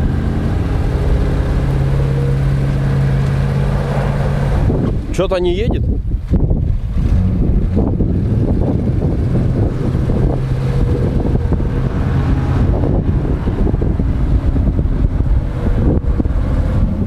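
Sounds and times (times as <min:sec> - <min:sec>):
engine running under load: 0:00.0 - 0:17.0
wind buffeting microphone: 0:00.0 - 0:17.0.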